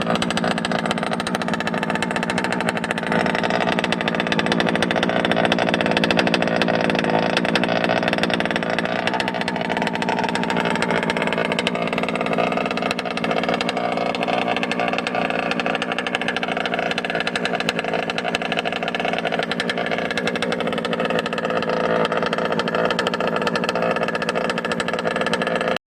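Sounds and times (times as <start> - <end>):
small two-stroke engine running: 0.0 - 25.8.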